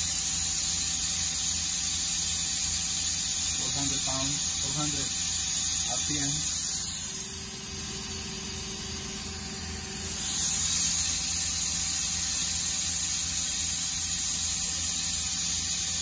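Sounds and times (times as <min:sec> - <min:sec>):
lathe spindle whining: 0:00.0 - 0:16.0.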